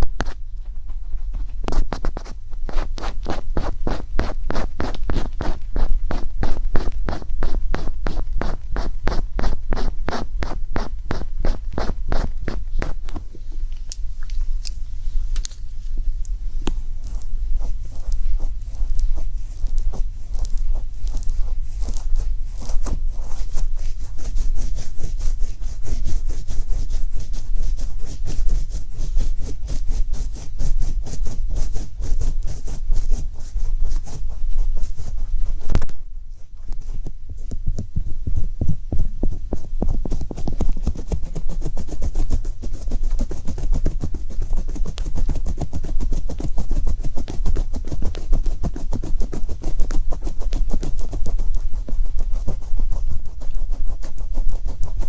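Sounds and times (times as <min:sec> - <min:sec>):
rapid scratching and tapping: 0:00.0 - 0:13.9, 0:16.6 - 0:55.0
steady low hum: 0:00.0 - 0:55.0.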